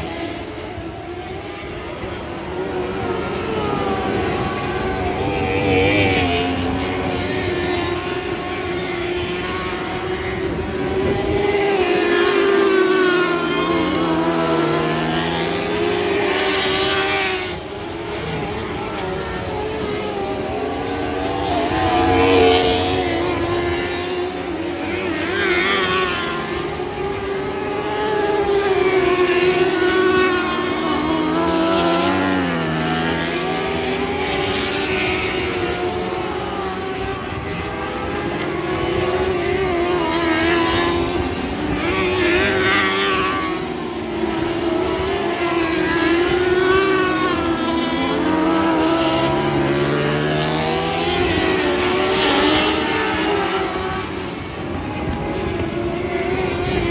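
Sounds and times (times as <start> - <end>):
race car engines revving past: 0.0 - 56.9.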